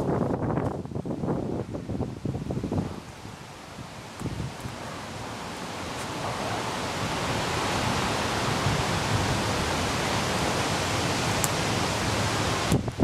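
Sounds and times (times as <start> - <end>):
wind buffeting microphone: 0.0 - 13.0
wind through leafy trees: 0.0 - 13.0.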